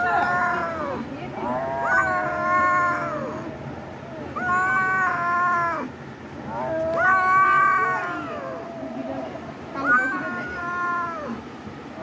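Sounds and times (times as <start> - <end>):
cat yowling: 0.0 - 5.9, 6.5 - 11.4.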